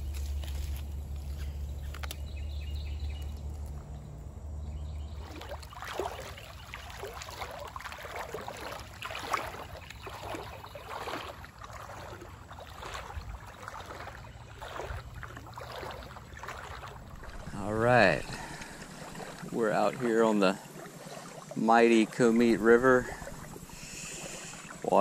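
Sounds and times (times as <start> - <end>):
low steady hum: 0.0 - 25.0
water sloshing from wading: 0.0 - 25.0.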